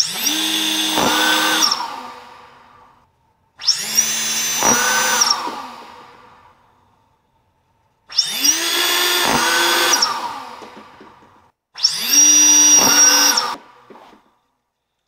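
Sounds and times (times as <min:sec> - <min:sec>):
motors spinning with whine: 0:00.0 - 0:02.9, 0:03.6 - 0:06.7, 0:08.1 - 0:14.3.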